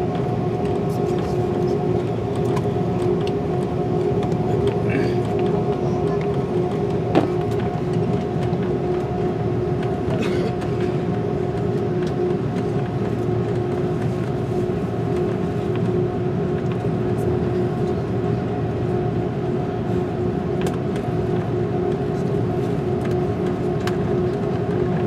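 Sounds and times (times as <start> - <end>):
airliner cabin rumble: 0.0 - 25.0.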